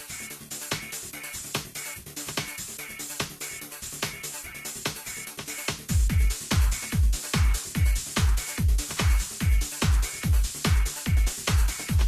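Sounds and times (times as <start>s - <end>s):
background music with kick drum beat: 0.0s - 12.0s.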